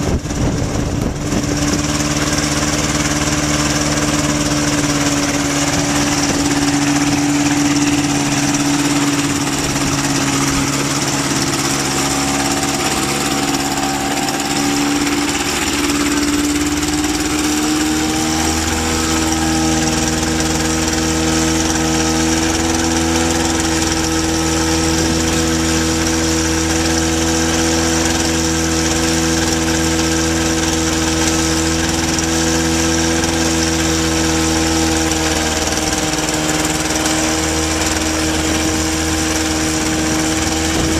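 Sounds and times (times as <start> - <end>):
light aircraft engine running: 0.0 - 40.9.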